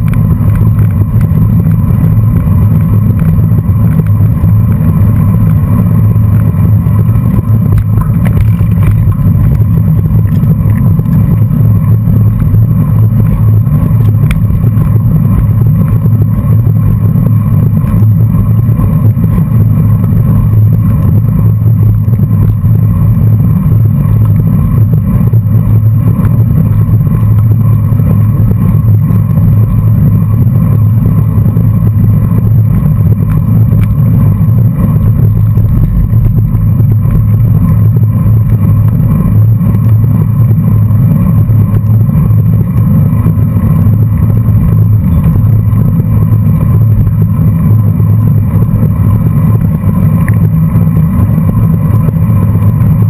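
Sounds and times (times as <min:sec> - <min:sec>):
tyre noise on dirt road: 0:00.0 - 0:53.0
wind buffeting microphone: 0:00.0 - 0:53.0.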